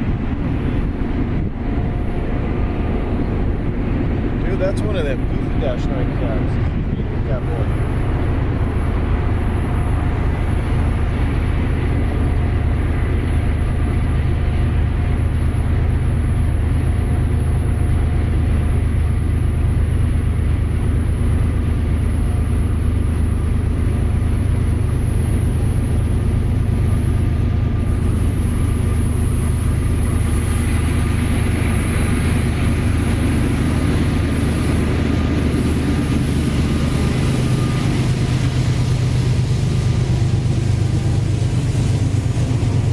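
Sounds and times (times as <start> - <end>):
diesel locomotive engine: 0.0 - 42.9
freight train rolling by: 0.0 - 42.9.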